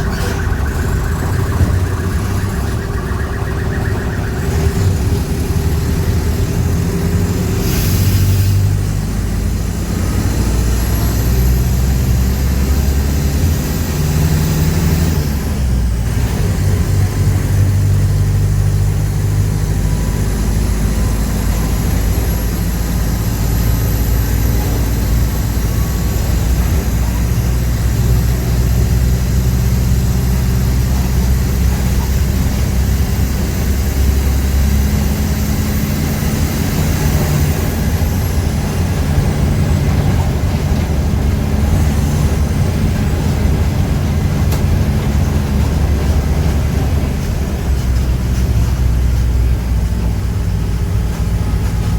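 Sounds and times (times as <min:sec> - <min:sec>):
bus diesel engine drone: 0:00.0 - 0:51.9.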